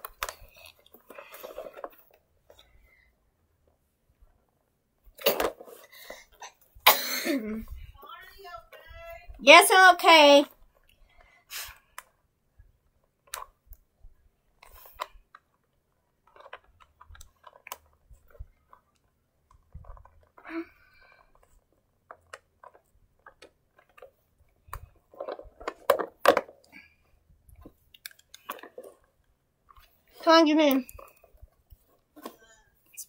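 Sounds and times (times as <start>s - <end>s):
plush toys being handled: 0.0s - 6.8s, 12.0s - 33.0s.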